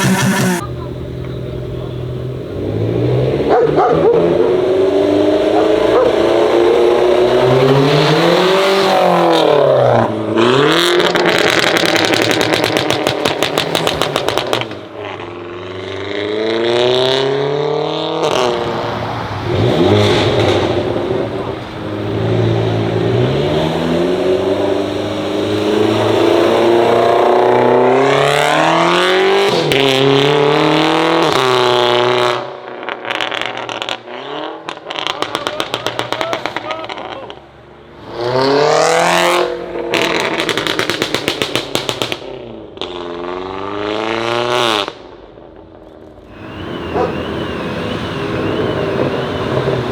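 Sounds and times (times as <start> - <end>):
car engine accelerating hard: 0.0 - 45.0, 46.3 - 49.9.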